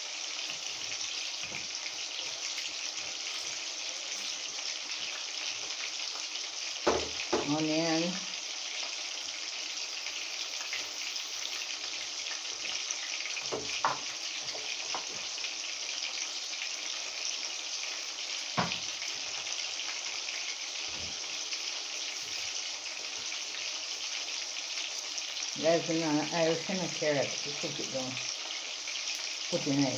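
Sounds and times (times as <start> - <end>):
chicken sizzling in hot oil: 0.0 - 29.9.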